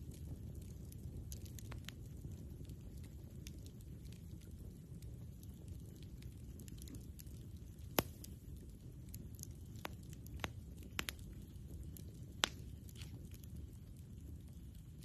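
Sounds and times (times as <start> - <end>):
campfire rumbling: 0.0 - 15.0
fire pops and crackles: 0.0 - 15.0.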